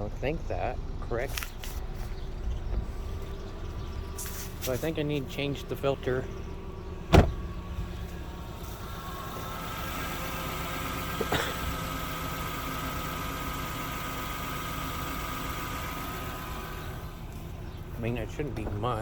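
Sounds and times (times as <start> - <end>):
car engine idling: 0.2 - 19.0.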